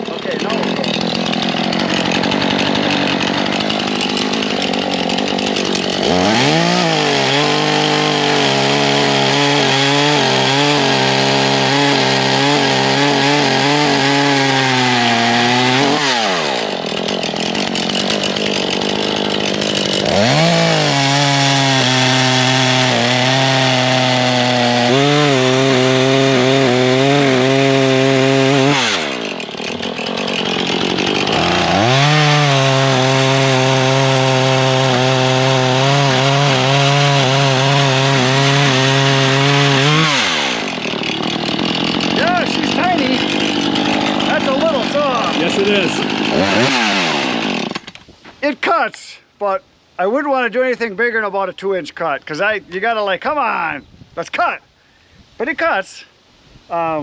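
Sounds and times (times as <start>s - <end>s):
chainsaw cutting log: 0.0s - 48.2s.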